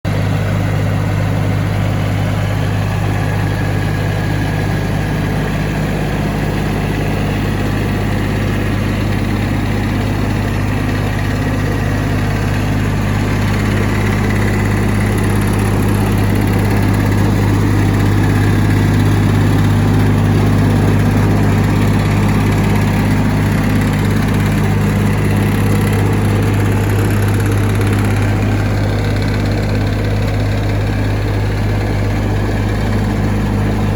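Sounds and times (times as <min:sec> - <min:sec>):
wood chipper diesel engine running: 0:00.0 - 0:33.9.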